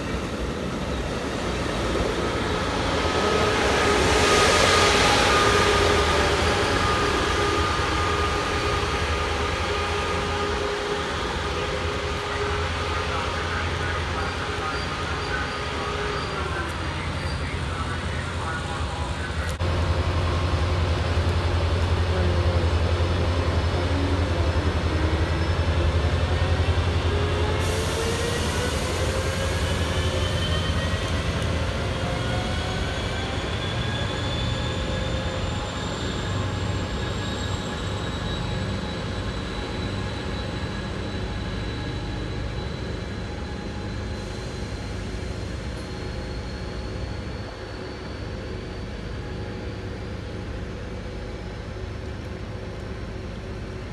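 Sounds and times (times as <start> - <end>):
deep locomotive engine rumble: 0.0 - 53.9.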